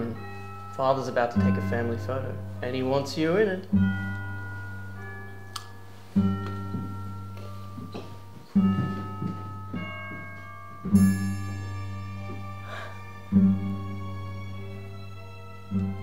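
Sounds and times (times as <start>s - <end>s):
deep ringing notes: 0.0s - 16.0s
soft higher notes: 0.0s - 16.0s.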